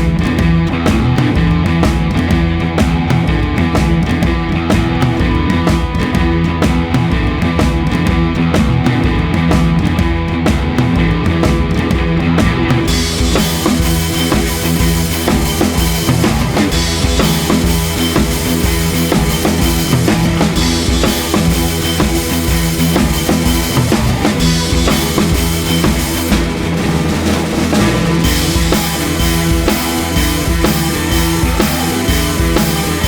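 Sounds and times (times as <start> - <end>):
rock music with drums and guitar: 0.0 - 33.0.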